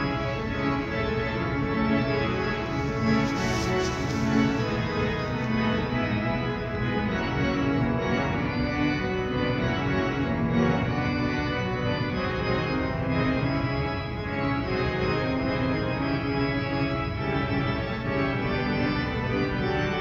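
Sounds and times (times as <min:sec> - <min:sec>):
pipe organ playing chords: 0:00.0 - 0:20.0.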